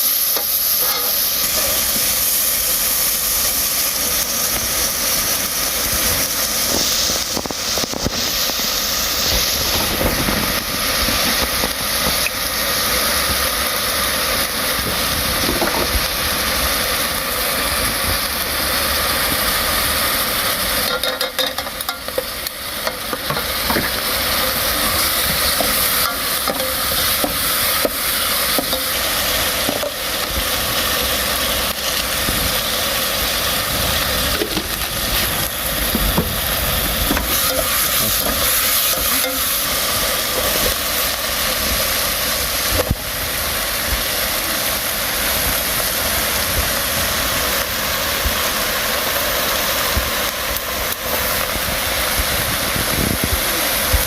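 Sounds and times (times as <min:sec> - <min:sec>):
food sizzling while frying: 0:00.0 - 0:54.0.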